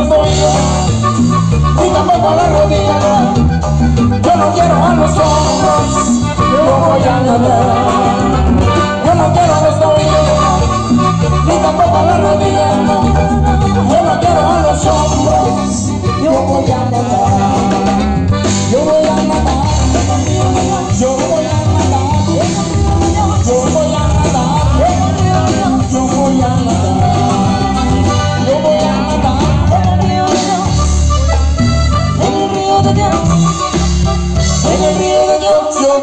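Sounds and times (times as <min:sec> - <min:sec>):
accordion: 0:00.0 - 0:36.0
drum kit: 0:00.0 - 0:36.0
live band playing latin music: 0:00.0 - 0:36.0.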